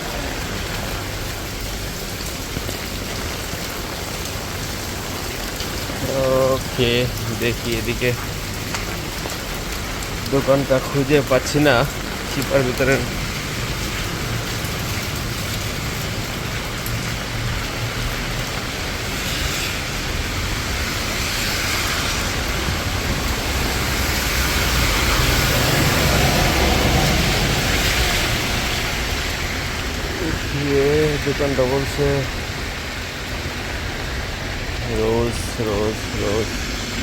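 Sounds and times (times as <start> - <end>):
heavy rain on street: 0.0 - 37.0.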